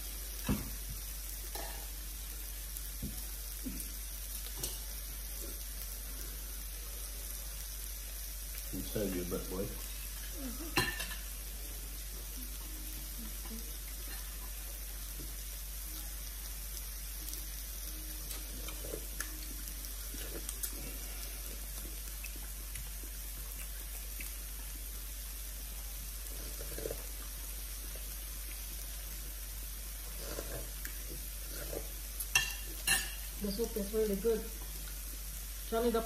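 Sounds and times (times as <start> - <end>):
broth simmering: 0.0 - 36.0
meat sizzling on a grill: 0.0 - 36.0.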